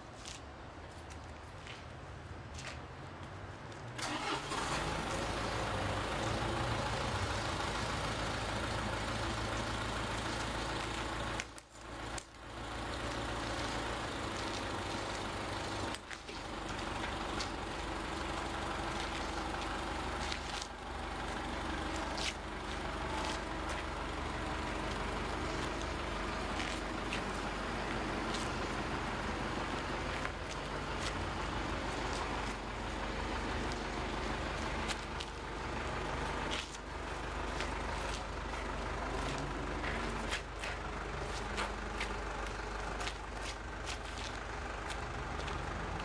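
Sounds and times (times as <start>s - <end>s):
vehicle engine starting and running: 3.9s - 46.0s.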